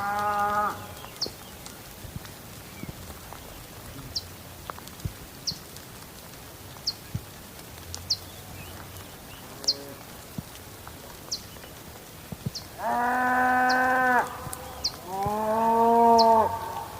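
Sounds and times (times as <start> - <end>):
rain hissing: 0.0 - 16.9.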